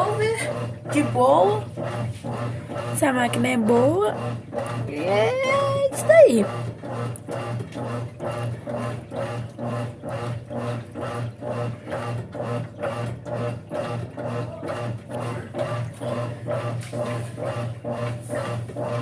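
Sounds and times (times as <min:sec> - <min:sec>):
washing machine motor hum: 0:00.0 - 0:19.0
washing machine swishing churn: 0:00.0 - 0:19.0.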